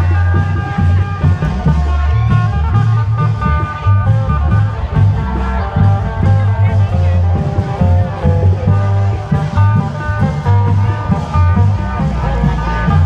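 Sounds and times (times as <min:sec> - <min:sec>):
heavy drum beats: 0:00.0 - 0:13.0
plucked string melody: 0:00.0 - 0:13.0.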